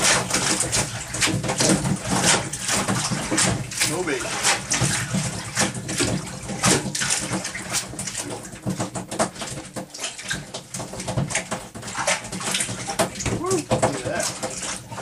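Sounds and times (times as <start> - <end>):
water slapping against boat hull: 0.0 - 15.0.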